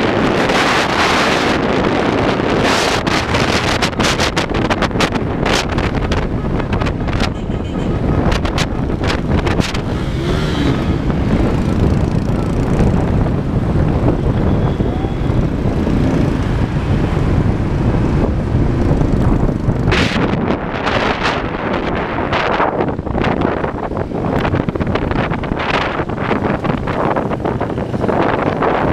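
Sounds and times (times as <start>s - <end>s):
road and engine rumble: 0.0s - 28.9s
wind buffeting microphone: 0.0s - 28.9s.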